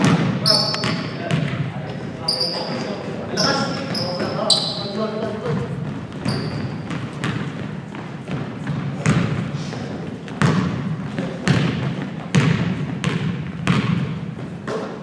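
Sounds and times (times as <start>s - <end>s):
basketball bouncing on gym floor: 0.0s - 2.5s, 3.4s - 15.0s
crowd chatter: 0.0s - 12.3s.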